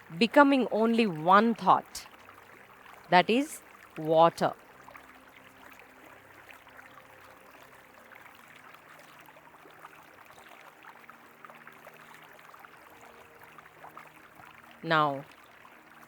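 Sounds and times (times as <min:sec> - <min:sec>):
river water babbling: 0:00.0 - 0:16.0.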